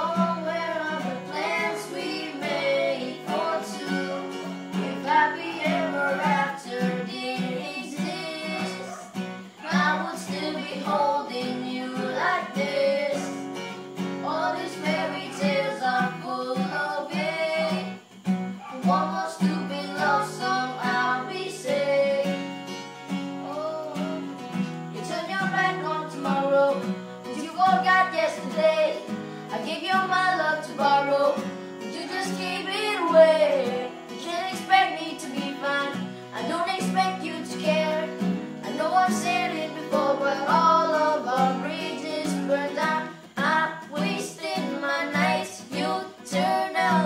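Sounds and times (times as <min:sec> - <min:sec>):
person singing: 0:00.0 - 0:13.5, 0:14.2 - 0:18.1, 0:18.7 - 0:22.5, 0:23.4 - 0:47.0
acoustic guitar: 0:00.0 - 0:47.0.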